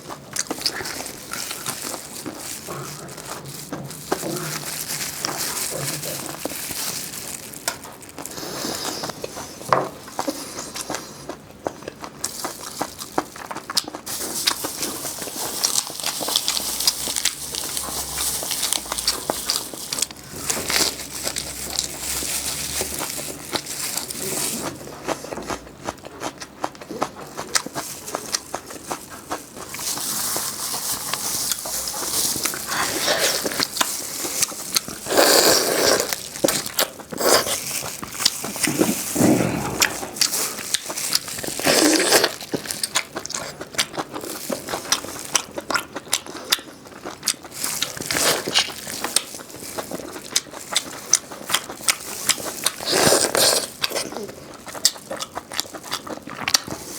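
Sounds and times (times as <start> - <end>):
person chewing food: 0.0 - 56.9
crunchy bites: 10.2 - 56.9.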